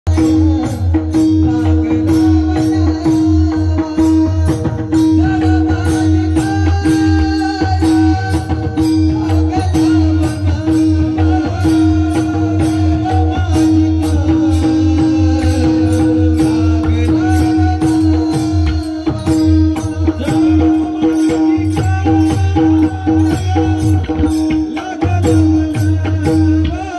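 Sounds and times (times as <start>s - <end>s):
metallic percussion: 0.1s - 26.9s.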